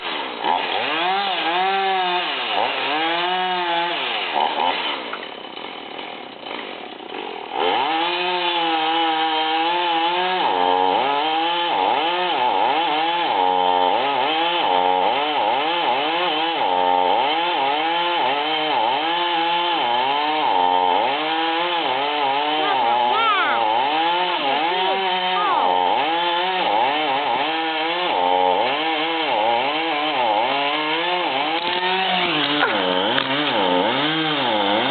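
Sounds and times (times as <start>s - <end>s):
chainsaw revving in wood: 0.0s - 34.9s.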